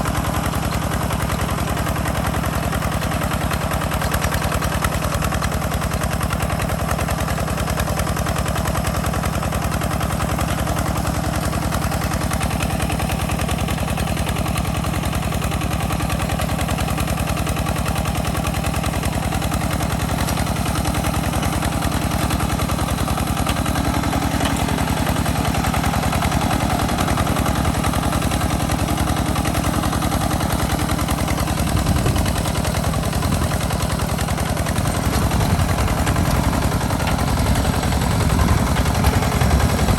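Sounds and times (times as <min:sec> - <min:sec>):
walking tractor diesel engine chugging: 0:00.0 - 0:39.9.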